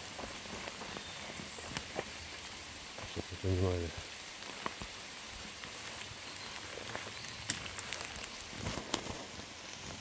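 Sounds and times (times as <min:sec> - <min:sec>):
rain on forest leaves: 0:00.0 - 0:10.0.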